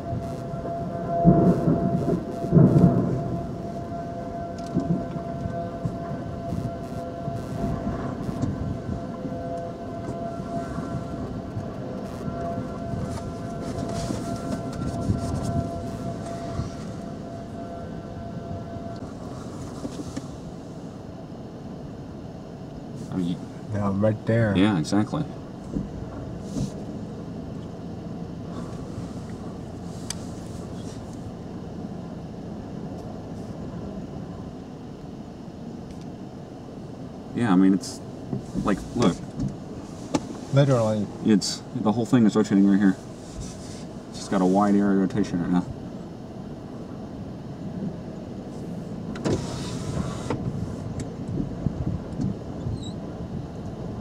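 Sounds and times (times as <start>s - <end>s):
car rumbling on road: 0.0s - 21.3s, 22.9s - 54.0s
whirring rush: 0.0s - 43.2s.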